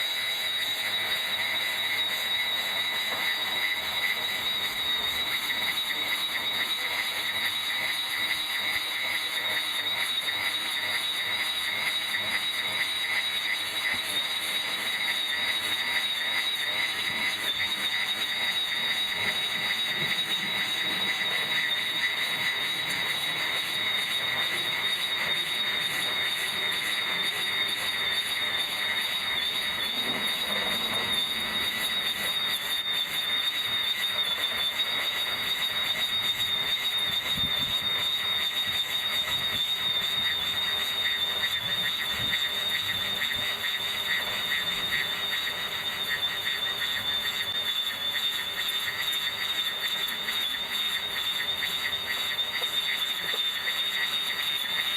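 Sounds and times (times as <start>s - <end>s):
electric grass trimmer whining: 0.0s - 54.9s.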